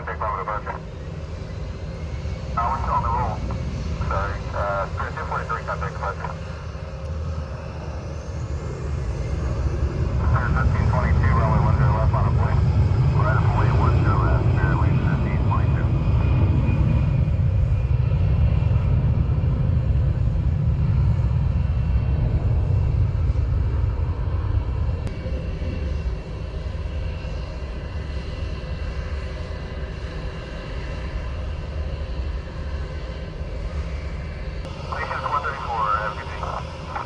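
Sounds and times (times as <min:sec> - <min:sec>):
jet engines rumbling: 0:00.0 - 0:37.0.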